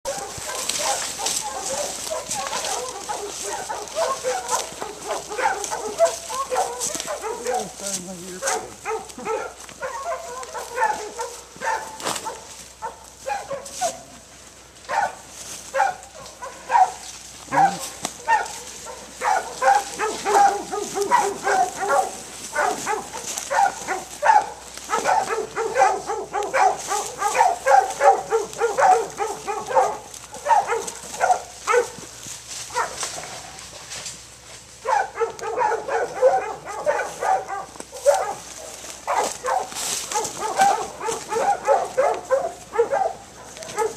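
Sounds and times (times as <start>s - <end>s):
dogs barking: 0.0s - 43.9s.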